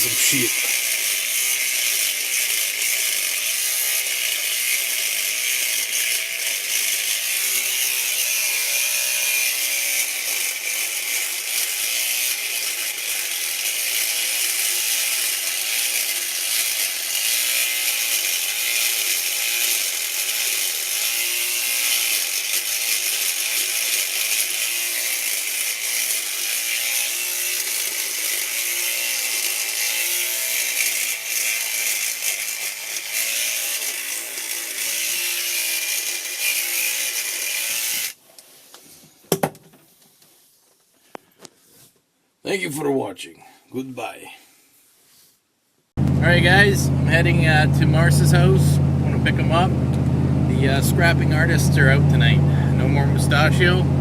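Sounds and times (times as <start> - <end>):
electric razor buzzing: 0.0 - 38.2, 46.2 - 53.8.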